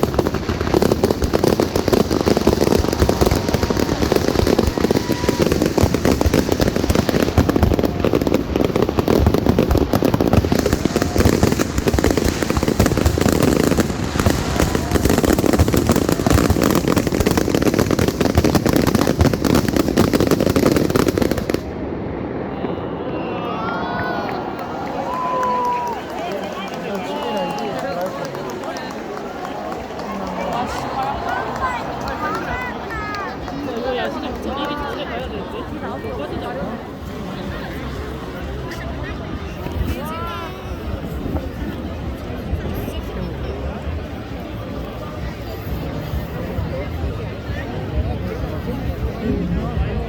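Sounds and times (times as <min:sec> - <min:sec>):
fireworks bangs and crackling: 0:00.0 - 0:50.0.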